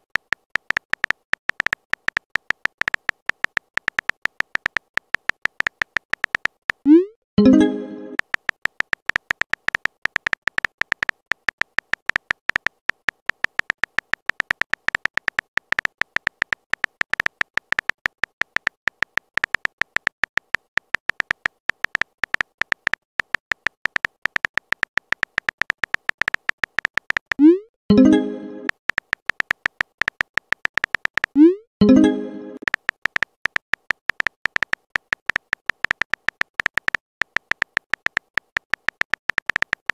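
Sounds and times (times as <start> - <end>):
keyboard typing ticks: 0.0 - 39.9.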